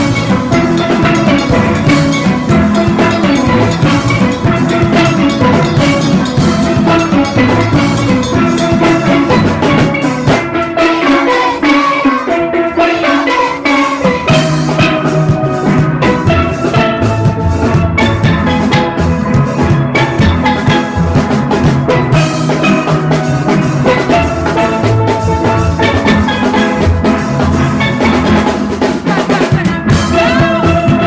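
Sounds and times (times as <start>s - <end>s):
drum kit: 0.0s - 31.0s
steel pans playing: 0.0s - 31.0s.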